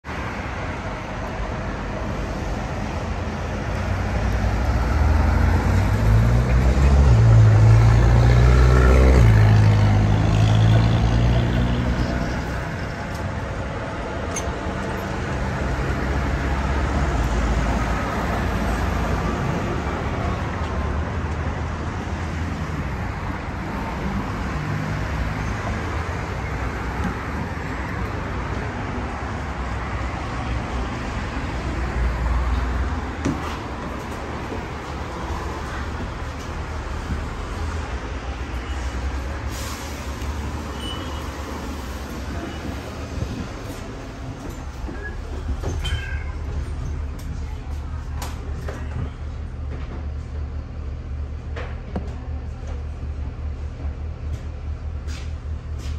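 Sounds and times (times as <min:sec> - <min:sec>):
tram wheels rumbling on rails: 0:00.6 - 0:55.9.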